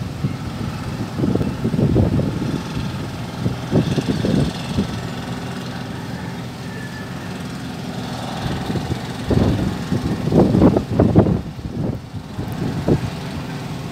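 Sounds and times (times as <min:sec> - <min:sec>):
low engine hum: 0:00.0 - 0:13.9
wind buffeting microphone: 0:00.0 - 0:13.9.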